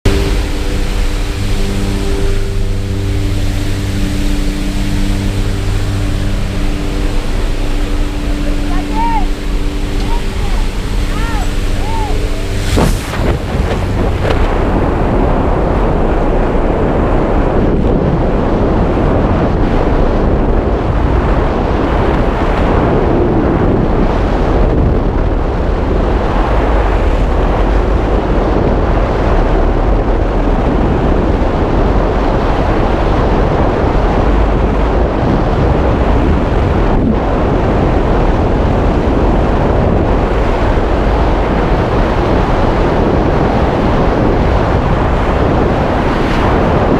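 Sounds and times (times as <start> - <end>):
low rumble: 0.0 - 46.9
wind buffeting microphone: 0.0 - 46.9.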